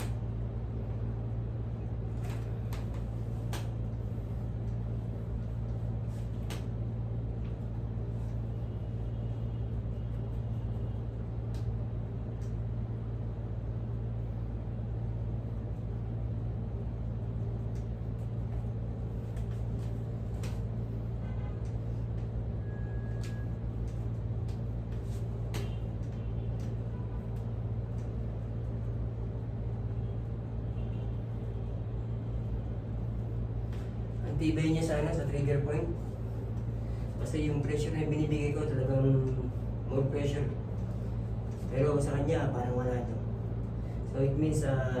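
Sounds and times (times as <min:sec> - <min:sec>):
low machine hum: 0:00.0 - 0:45.0.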